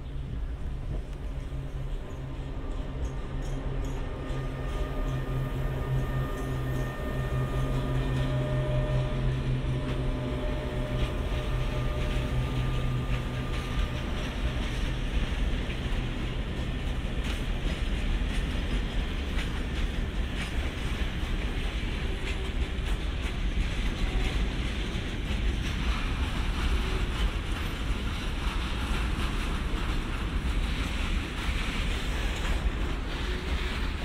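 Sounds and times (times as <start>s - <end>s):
electric locomotive humming: 0.0s - 34.0s.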